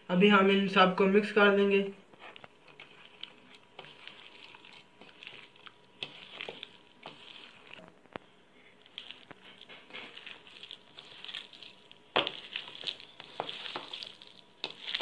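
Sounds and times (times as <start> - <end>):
hand kneading wet mixture: 1.1 - 15.0.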